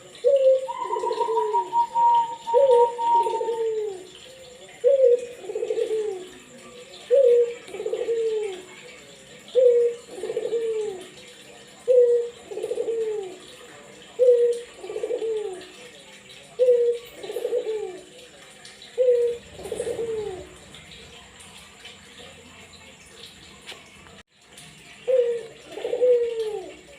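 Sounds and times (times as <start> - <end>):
dove cooing: 0.0 - 22.5, 25.0 - 26.9.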